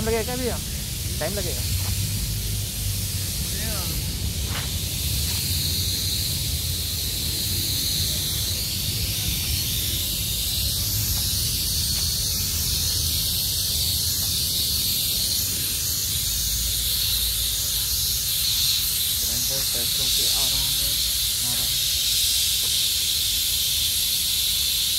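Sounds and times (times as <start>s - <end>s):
high-pitched hiss: 0.0s - 24.9s.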